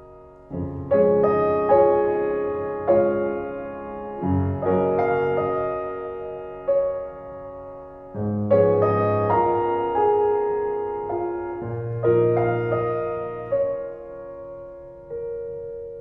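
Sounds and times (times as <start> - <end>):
deep piano bass notes: 0.0 - 16.0
slow quiet piano chords: 0.0 - 16.0.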